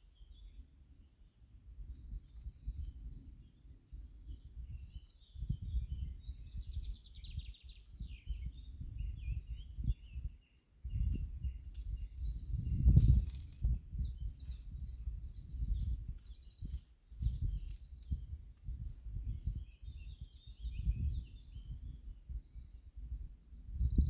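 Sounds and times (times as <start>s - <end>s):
songbirds trilling: 1.6s - 24.0s
wind buffeting microphone: 1.6s - 24.0s.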